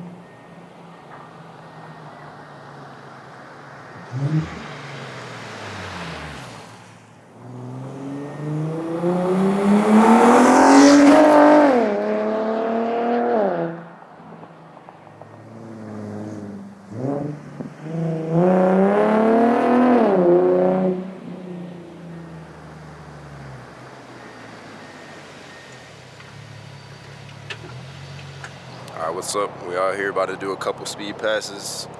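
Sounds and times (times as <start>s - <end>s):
car engine revving: 1.1s - 31.9s.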